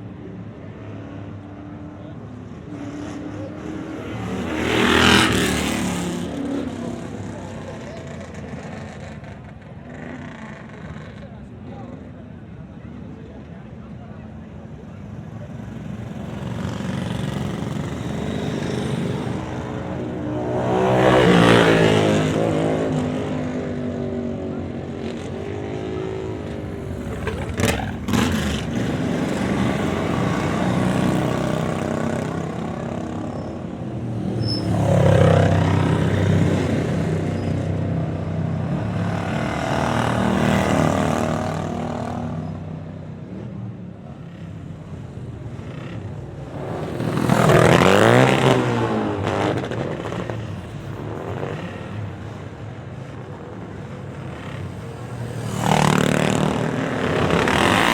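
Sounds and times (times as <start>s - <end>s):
motorcycles riding past: 0.2s - 14.2s, 14.8s - 57.9s.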